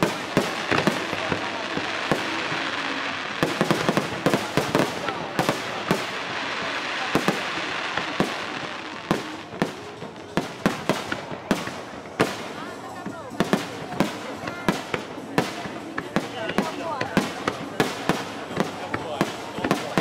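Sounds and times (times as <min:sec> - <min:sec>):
crackling hiss of fireworks: 0:00.0 - 0:20.0
firework bangs: 0:00.0 - 0:20.0.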